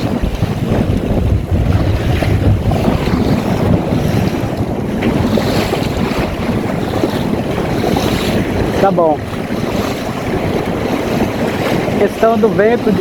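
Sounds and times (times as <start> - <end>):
water splashing along boat hull: 0.0 - 13.0
wind buffeting microphone: 0.0 - 13.0.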